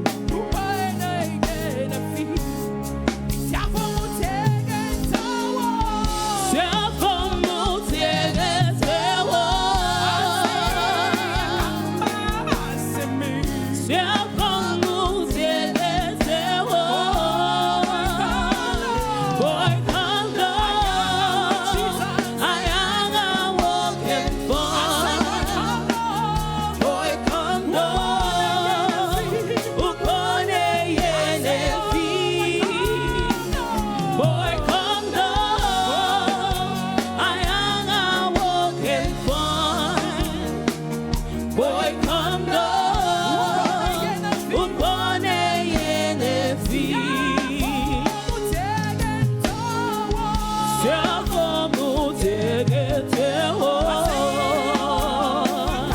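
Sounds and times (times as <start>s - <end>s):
band with bass and drums: 0.0s - 55.9s
voices singing with vibrato: 0.0s - 55.9s.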